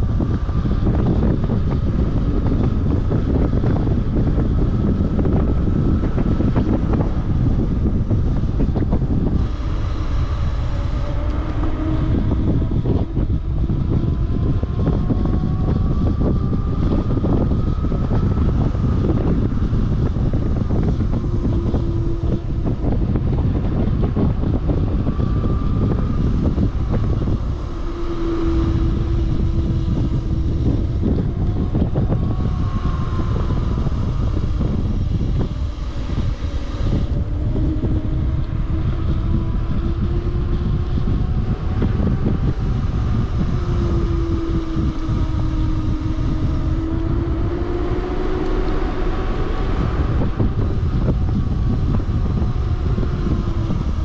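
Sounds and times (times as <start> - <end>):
wavering hum: 0.0 - 54.0
wind buffeting microphone: 0.0 - 54.0.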